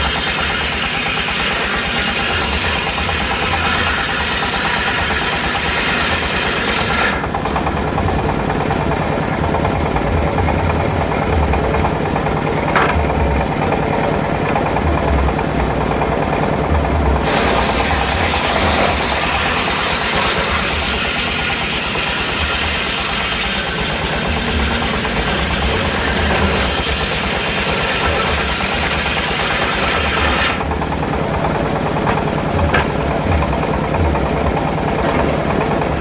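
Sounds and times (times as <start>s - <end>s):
sawmill engine running: 0.0s - 36.0s.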